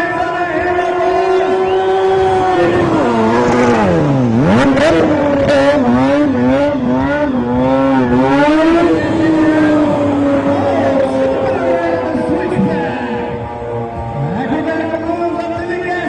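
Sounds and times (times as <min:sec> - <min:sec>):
motorcycle engine revving: 0:00.5 - 0:16.0.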